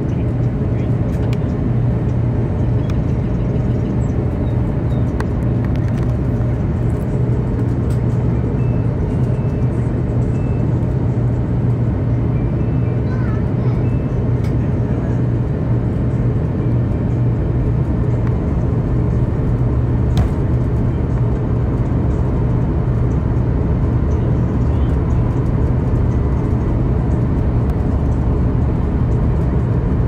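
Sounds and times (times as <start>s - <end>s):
airliner engine drone in cabin: 0.0s - 30.0s.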